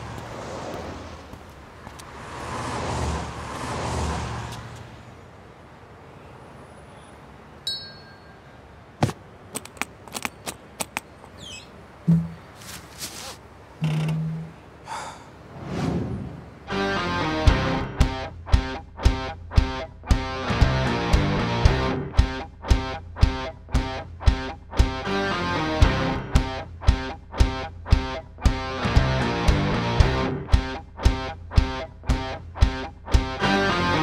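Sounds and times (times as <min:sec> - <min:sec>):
street traffic: 0:00.0 - 0:34.0.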